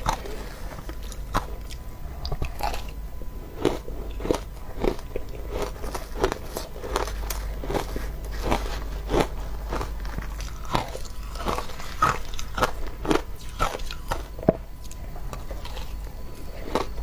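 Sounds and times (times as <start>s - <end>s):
chewing crunchy shaved ice: 0.0s - 17.0s.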